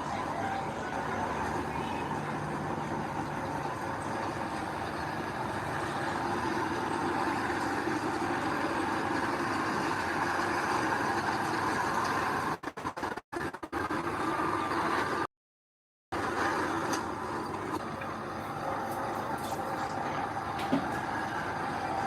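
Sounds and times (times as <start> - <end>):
heavy diesel machinery running: 0.0 - 15.3, 16.2 - 22.0.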